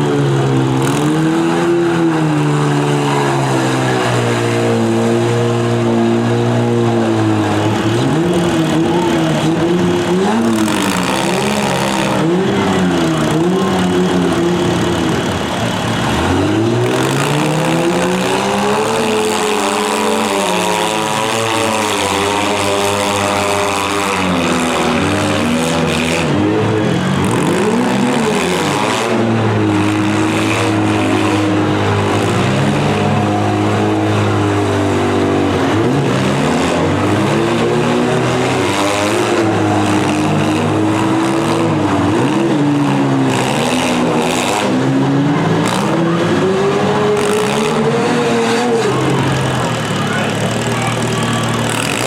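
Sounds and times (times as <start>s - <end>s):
car engines revving hard: 0.0s - 52.0s.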